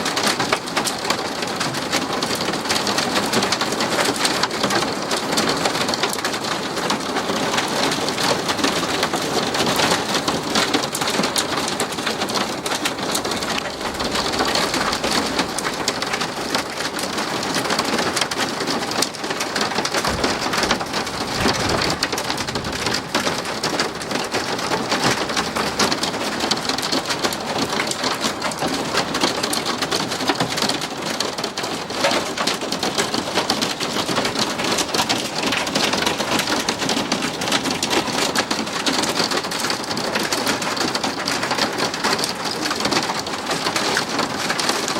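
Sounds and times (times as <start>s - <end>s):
hail and rain pelting down: 0.0s - 44.9s.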